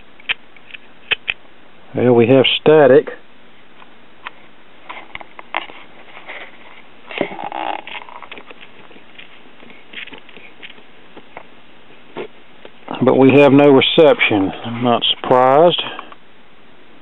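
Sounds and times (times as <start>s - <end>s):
radio static hiss with crackles: 0.0s - 17.0s.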